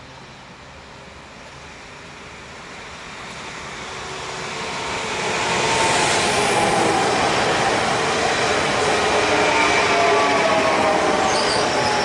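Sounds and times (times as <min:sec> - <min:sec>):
electric train running past: 0:00.0 - 0:12.0.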